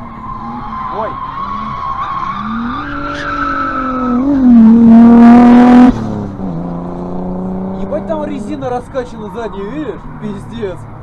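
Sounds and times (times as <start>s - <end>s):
car engine revving: 0.0s - 11.0s
tyres squealing: 0.0s - 11.0s.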